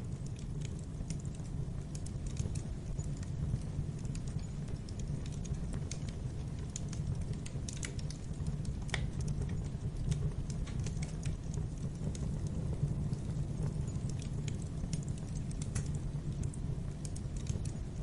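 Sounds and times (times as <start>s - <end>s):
low rumble of fire: 0.0s - 18.0s
wood fire crackling and popping: 0.0s - 18.0s.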